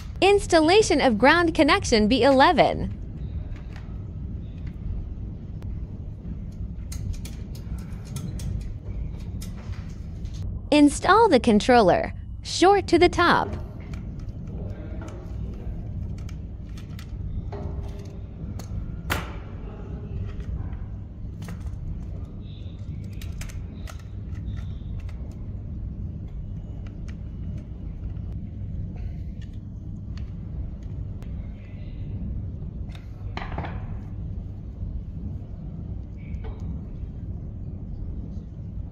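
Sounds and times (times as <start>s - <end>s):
low background rumble: 0.0s - 38.9s.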